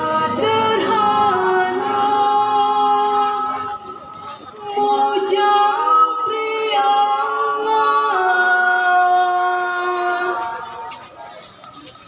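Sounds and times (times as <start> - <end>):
women singing long held notes: 0.0 - 4.0, 4.6 - 10.6.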